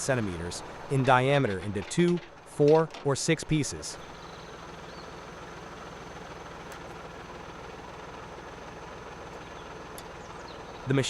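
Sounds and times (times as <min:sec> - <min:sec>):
machinery engine hum: 0:00.0 - 0:11.0.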